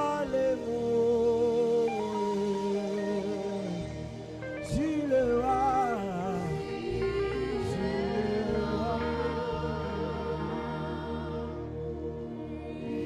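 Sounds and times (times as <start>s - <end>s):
sustained backing chords: 0.0s - 13.0s.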